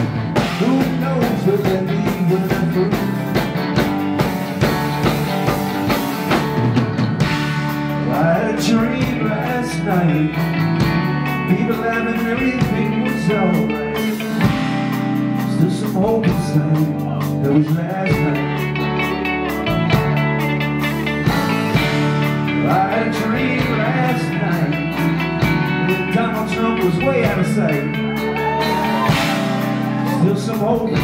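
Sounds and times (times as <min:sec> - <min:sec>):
drum kit beat: 0:00.0 - 0:31.0
electric guitar lead line: 0:00.0 - 0:31.0.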